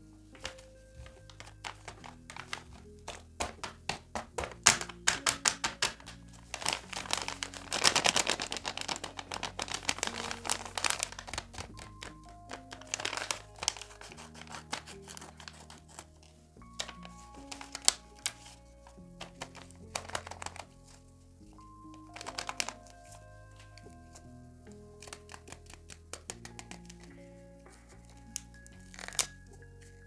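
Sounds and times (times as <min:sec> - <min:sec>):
background music: 0:00.0 - 0:30.0
paper crinkling and rustling: 0:00.0 - 0:30.0.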